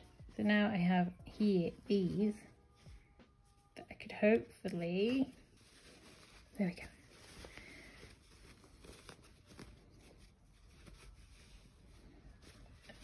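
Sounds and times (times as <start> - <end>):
fabric rustling and ticking: 0.0 - 13.0.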